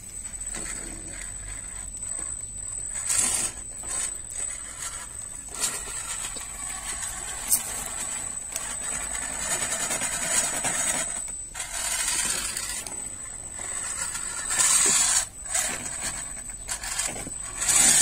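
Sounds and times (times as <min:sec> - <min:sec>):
rc car motor whine: 0:00.0 - 0:18.0.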